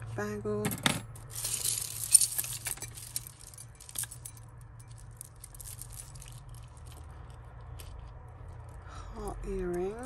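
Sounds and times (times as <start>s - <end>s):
jewellery clinking and rattling: 0.5s - 8.8s.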